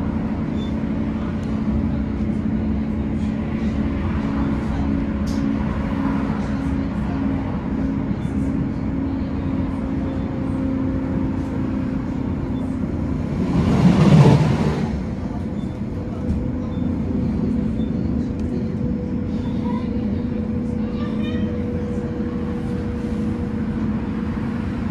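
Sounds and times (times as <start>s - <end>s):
tram rumbling and humming: 0.0s - 24.9s.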